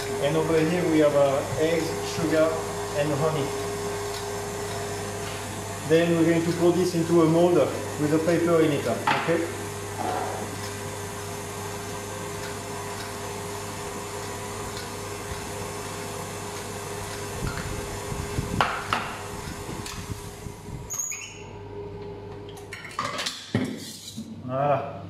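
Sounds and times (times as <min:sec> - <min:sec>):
steady hum: 0:00.0 - 0:22.7.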